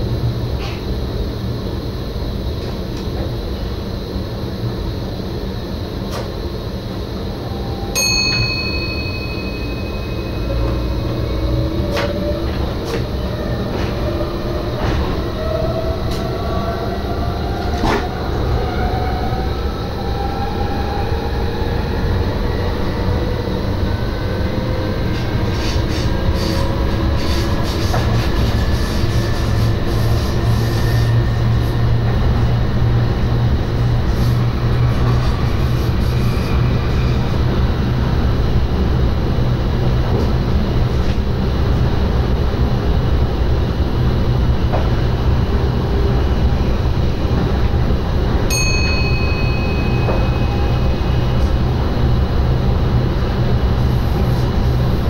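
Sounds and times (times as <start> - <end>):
low train running rumble: 0.0 - 55.0
train traction motor whine: 0.0 - 55.0.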